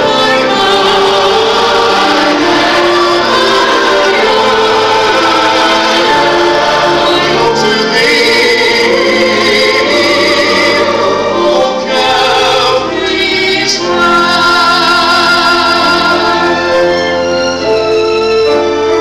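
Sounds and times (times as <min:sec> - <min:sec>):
choir singing: 0:00.0 - 0:19.0
violins and cello: 0:00.0 - 0:19.0.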